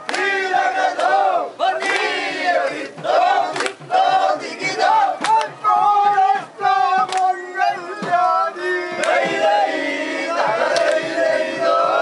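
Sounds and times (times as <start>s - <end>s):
crowd of men chanting: 0.0s - 12.0s
shouting voices: 0.0s - 12.0s.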